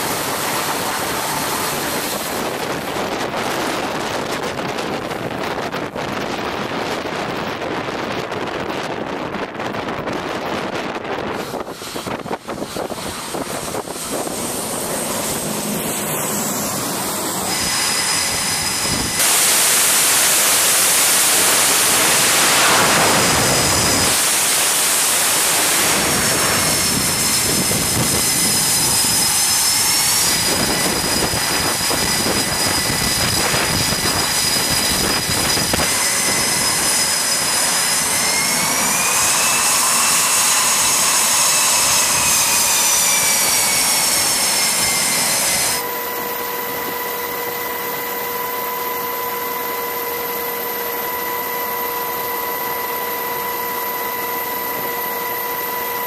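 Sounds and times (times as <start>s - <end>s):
jet engines roaring and whining: 0.0s - 56.0s.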